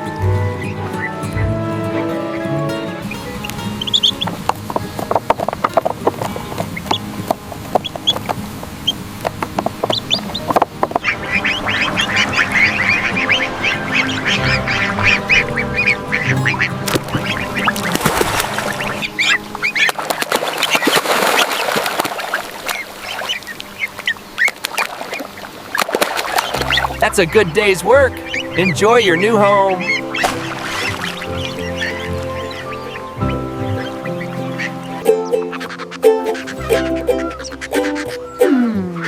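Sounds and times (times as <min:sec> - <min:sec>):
background music: 0:00.0 - 0:21.0, 0:26.5 - 0:39.0
ducklings peeping and quacking: 0:00.0 - 0:39.0.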